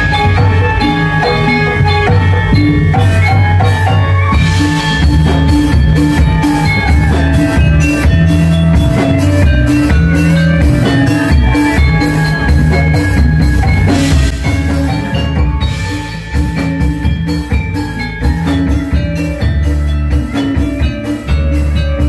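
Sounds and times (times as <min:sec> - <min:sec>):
drums: 0:00.0 - 0:22.0
metallophones ringing notes: 0:00.0 - 0:22.0.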